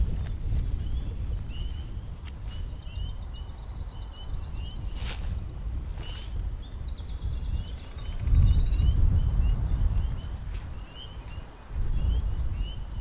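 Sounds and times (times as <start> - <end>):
low rumbling on microphone: 0.0 - 13.0
small birds chirping: 0.0 - 13.0.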